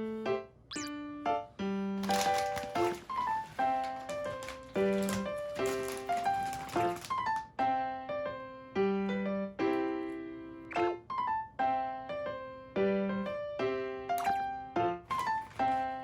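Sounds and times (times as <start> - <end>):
light piano tune: 0.0 - 16.0.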